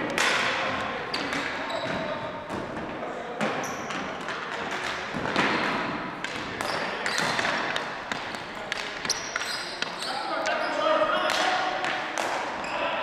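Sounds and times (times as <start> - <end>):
sticks and ball clacking on floor: 0.0 - 2.1, 2.7 - 12.6.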